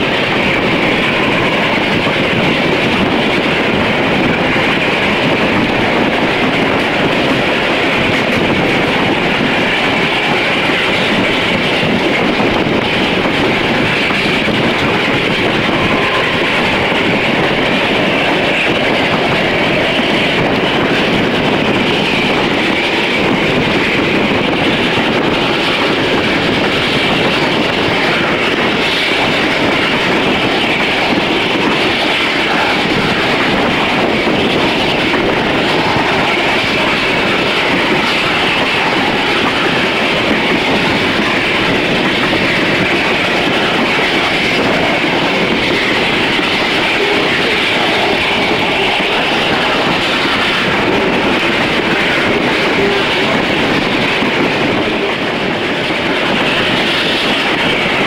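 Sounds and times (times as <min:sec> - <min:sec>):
train wheels rushing on rail: 0:00.0 - 0:58.0
wind rushing: 0:00.0 - 0:58.0.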